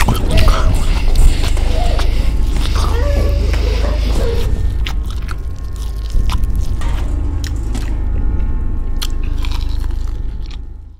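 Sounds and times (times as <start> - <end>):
chewing: 0.0 - 8.0, 9.0 - 10.7
steady low rumble: 0.0 - 10.9.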